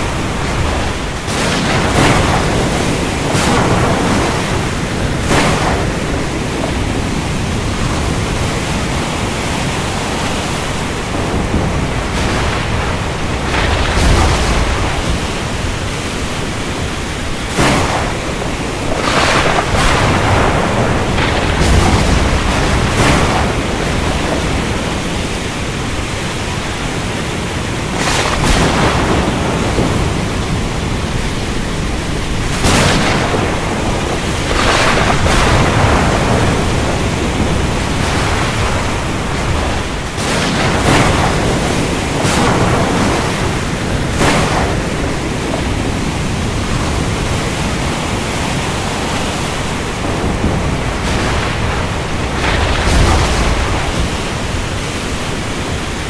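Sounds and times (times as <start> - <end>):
rain roar: 0.0 - 56.0
thunder crashes: 0.0 - 56.0
water noise: 0.0 - 56.0
wind: 0.0 - 56.0.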